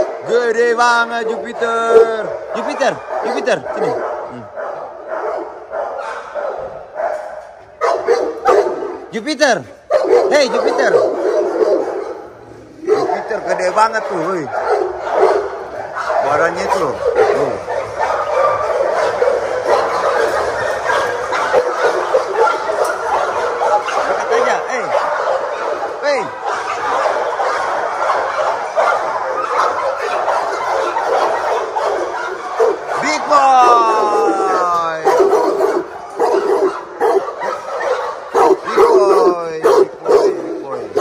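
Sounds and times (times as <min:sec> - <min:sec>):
many dogs barking: 0:00.0 - 0:41.0.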